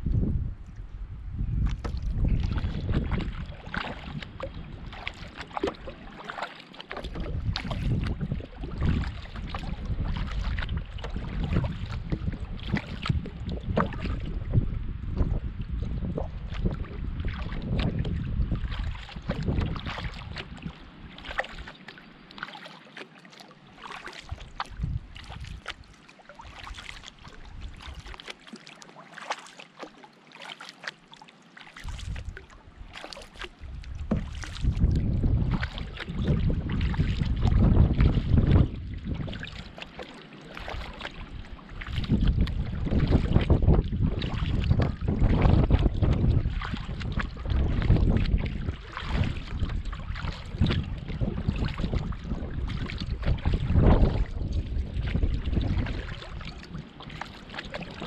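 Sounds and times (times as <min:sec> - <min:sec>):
wind rumble on microphone: 0:00.0 - 0:06.1, 0:06.9 - 0:21.8, 0:23.9 - 0:28.3, 0:31.8 - 0:40.0, 0:40.6 - 0:58.0
paddle splashes and drips: 0:01.6 - 0:58.0.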